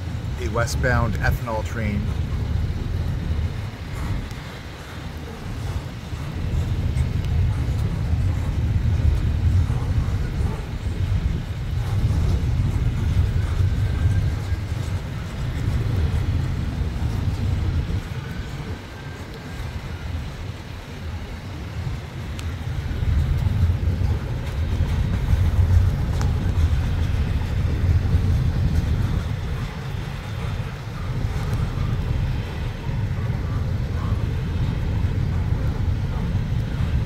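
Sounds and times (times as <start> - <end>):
faint high whine: 0.0 - 37.0
freight train rumbling past: 0.0 - 37.0.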